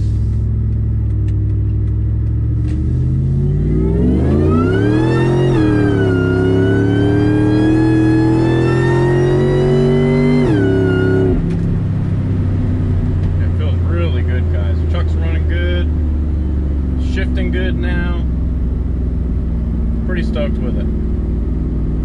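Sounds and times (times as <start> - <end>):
truck engine accelerating hard: 0.0 - 22.0.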